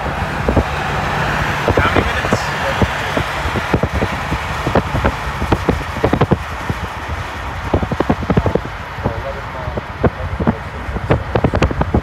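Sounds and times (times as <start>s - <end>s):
broad rumble: 0.0s - 12.0s
wind buffeting microphone: 0.0s - 12.0s.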